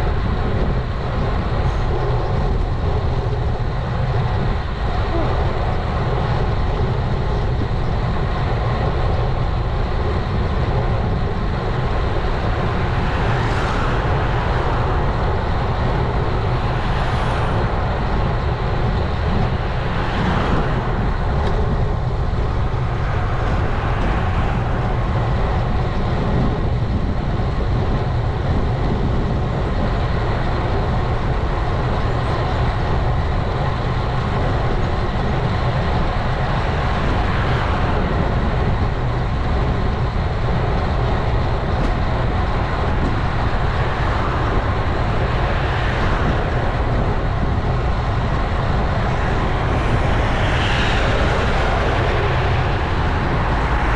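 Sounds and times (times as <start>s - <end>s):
road noise: 0.0s - 53.9s
wind on microphone: 0.0s - 53.9s.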